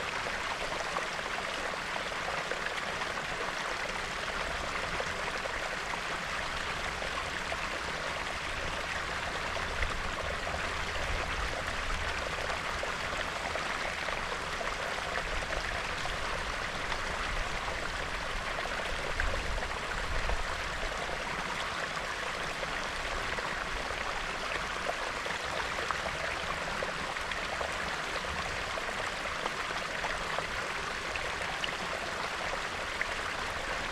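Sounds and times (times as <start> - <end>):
stream trickling over stones: 0.0 - 33.9.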